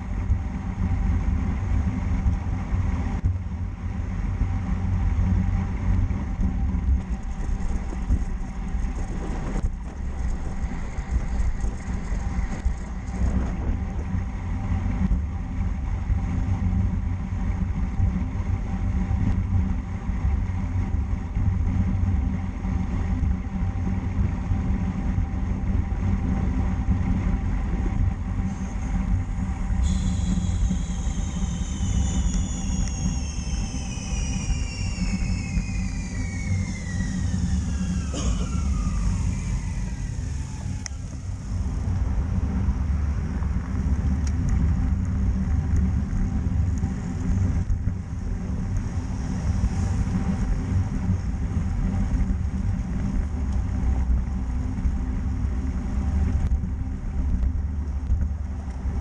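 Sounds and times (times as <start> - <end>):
bicycle tyre rumble: 0.0 - 59.0
high whine falling in pitch: 0.0 - 59.0
wind rushing over microphone: 0.0 - 59.0.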